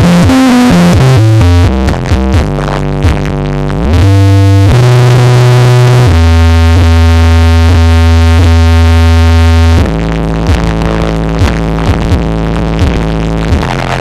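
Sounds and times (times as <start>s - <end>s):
loud electronic dance music: 0.0s - 14.0s.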